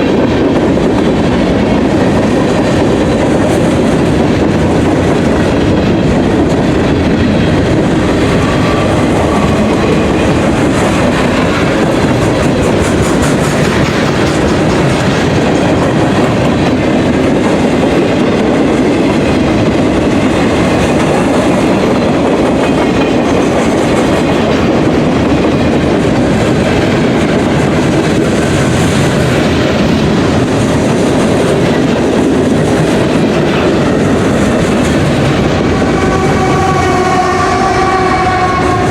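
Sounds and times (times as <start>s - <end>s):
wheels clicking over rail joints: 0.0s - 36.8s
freight train rumbling past: 0.0s - 38.9s.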